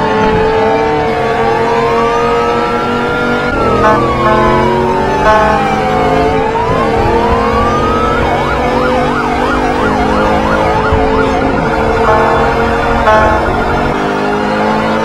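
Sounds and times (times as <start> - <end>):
police siren wailing and yelping: 0.1 - 15.0.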